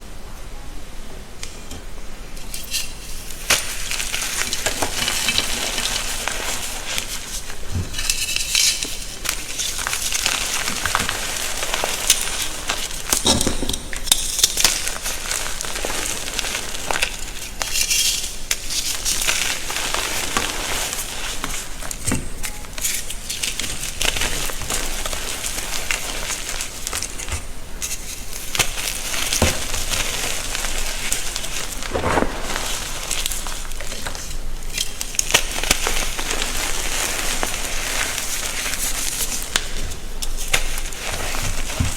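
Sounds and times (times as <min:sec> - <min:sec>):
chalk being crushed: 0:03.2 - 0:41.9.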